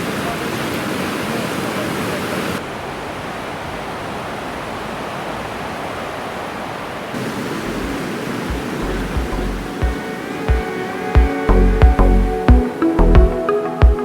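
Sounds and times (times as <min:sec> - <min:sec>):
waterfall water rushing: 0:00.0 - 0:14.0.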